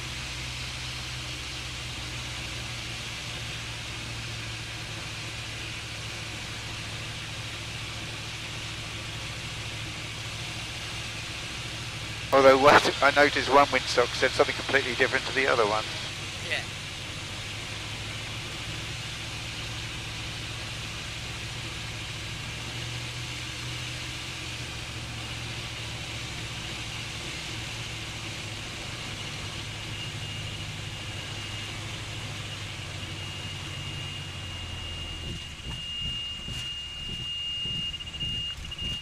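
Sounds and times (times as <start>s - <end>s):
light aircraft engine running: 0.0s - 39.0s.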